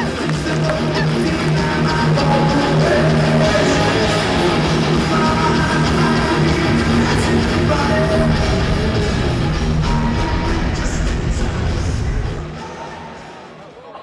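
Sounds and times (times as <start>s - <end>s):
rock music with guitar: 0.0s - 13.3s.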